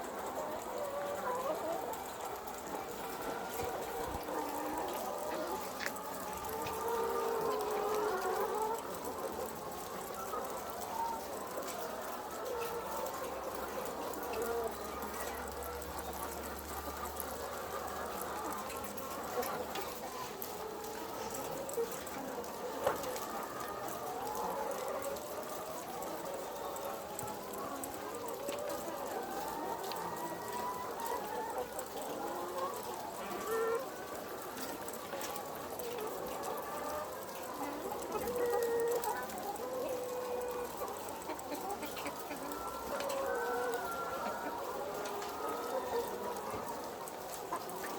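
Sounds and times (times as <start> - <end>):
chickens chattering: 0.0 - 47.9.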